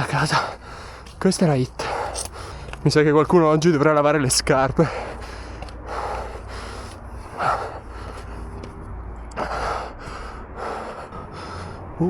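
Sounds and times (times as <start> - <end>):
person breathing heavily: 0.1 - 2.8, 4.7 - 12.0.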